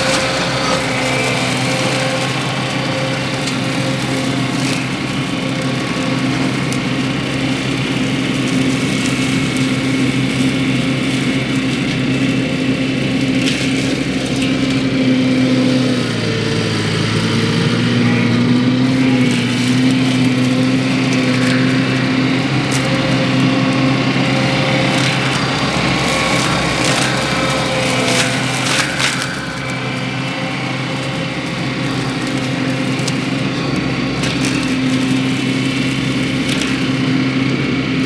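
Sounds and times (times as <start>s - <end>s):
skid steer engine running: 0.0s - 38.0s.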